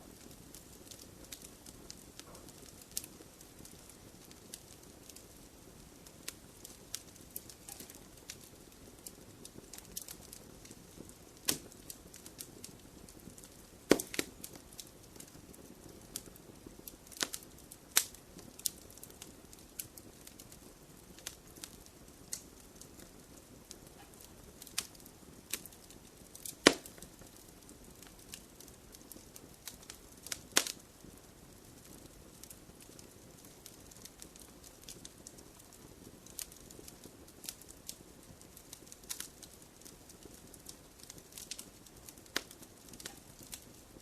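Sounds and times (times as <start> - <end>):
burning wood popping: 0.0 - 44.0
wood fire crackling: 0.0 - 44.0.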